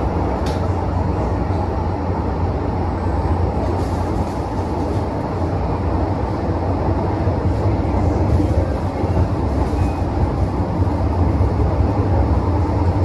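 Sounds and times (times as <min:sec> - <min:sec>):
train interior low rumble: 0:00.0 - 0:13.0.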